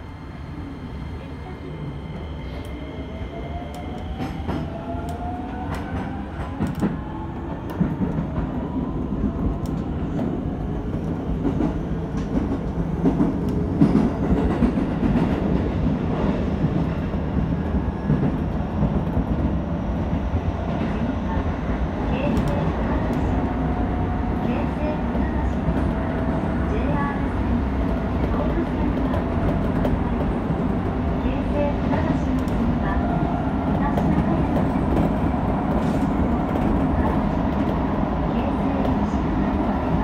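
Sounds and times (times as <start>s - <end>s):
wheels rumbling on rail: 0.0s - 40.0s.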